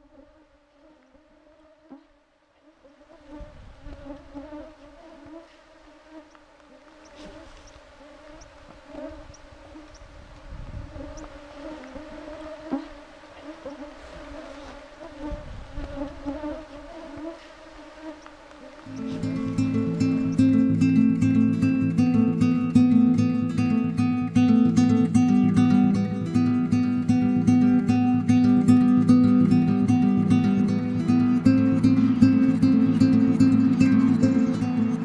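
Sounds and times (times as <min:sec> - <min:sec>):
mosquitoes buzzing: 0:00.0 - 0:10.1, 0:10.8 - 0:35.0.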